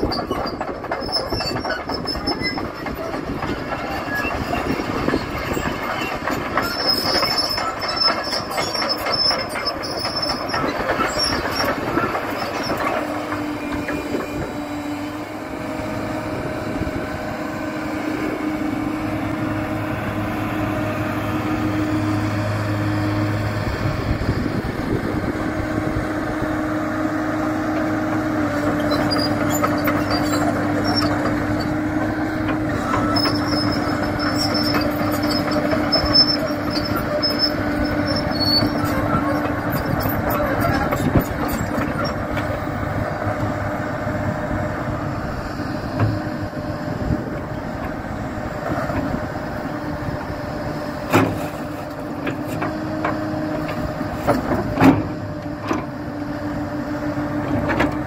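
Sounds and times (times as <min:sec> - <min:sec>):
steel tracks clanking and squealing: 0:00.0 - 0:56.0
excavator engine and hydraulics whine: 0:00.0 - 0:58.0.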